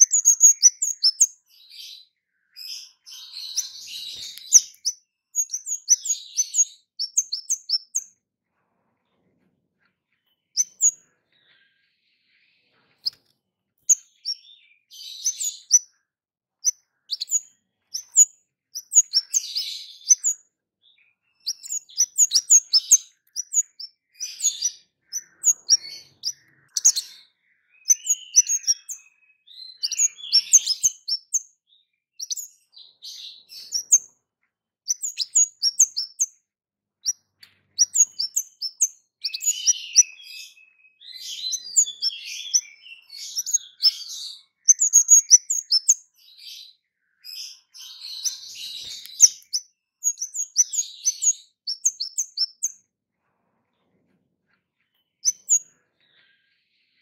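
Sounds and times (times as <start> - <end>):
bird sharp high chirps: 0.0 - 8.3, 10.1 - 34.2, 34.8 - 52.9, 54.8 - 57.0.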